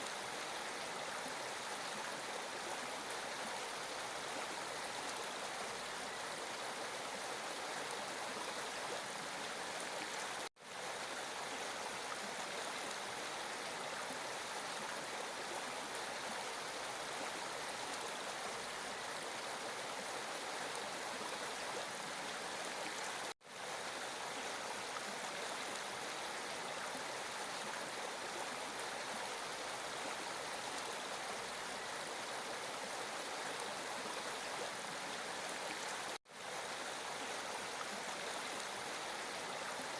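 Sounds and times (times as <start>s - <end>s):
rushing stream: 0.0s - 39.9s.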